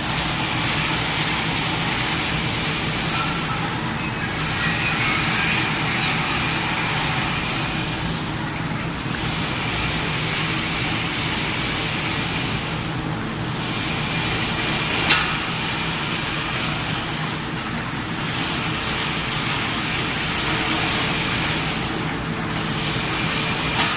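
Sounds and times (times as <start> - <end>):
factory machinery running: 0.0 - 23.9.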